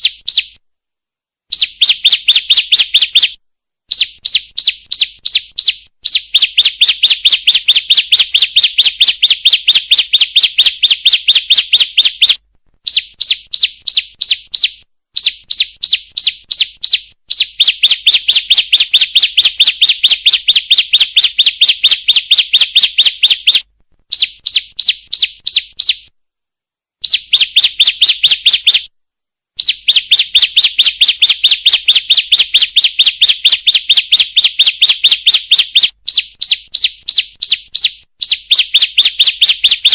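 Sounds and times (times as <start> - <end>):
bird high sharp chirps: 0.0 - 0.6, 1.5 - 26.1, 27.0 - 28.9, 29.6 - 39.9.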